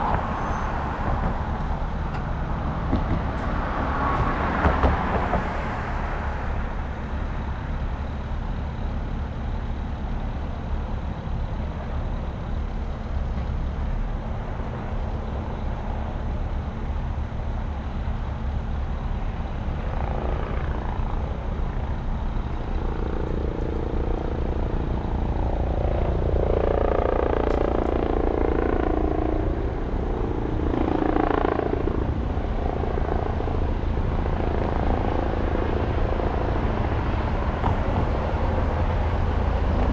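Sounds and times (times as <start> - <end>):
engine drone: 0.0 - 39.9
low rumble of vehicles: 0.0 - 39.9.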